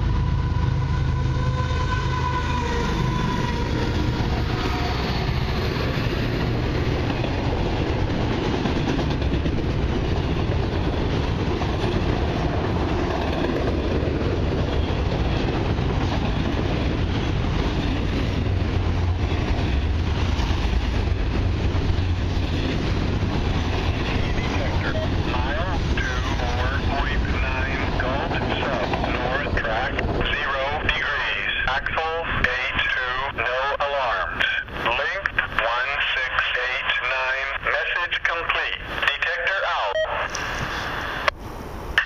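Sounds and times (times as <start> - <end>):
diesel locomotive engine: 0.0 - 42.0
freight train rumbling past: 0.0 - 42.0.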